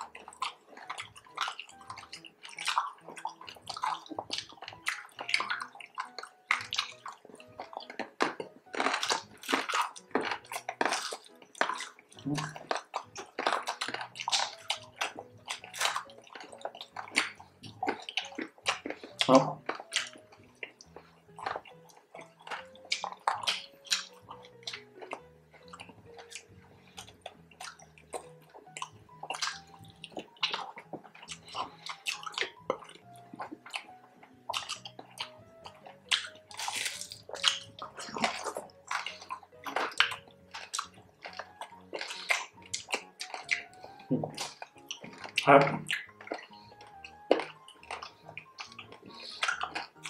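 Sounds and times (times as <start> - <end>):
crunching crispy skin: 0.0 - 50.0
soft background music: 0.0 - 50.0
wet chewing and lip-smacking: 0.0 - 50.0.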